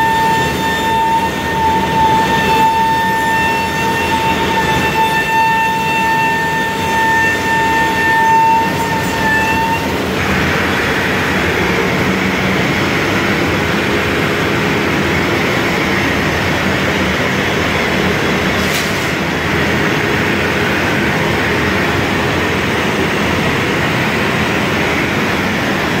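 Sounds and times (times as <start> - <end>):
router spindle high whine: 0.0 - 26.0
rushing machine noise: 0.0 - 26.0.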